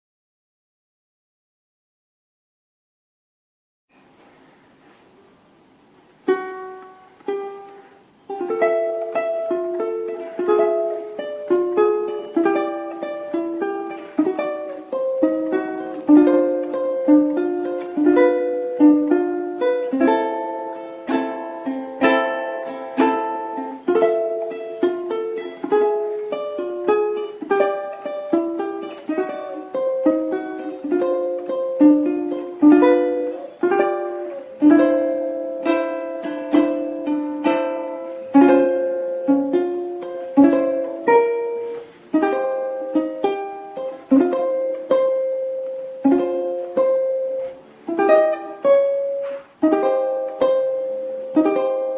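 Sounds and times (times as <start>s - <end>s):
ukulele melody with chords: 3.9s - 51.9s.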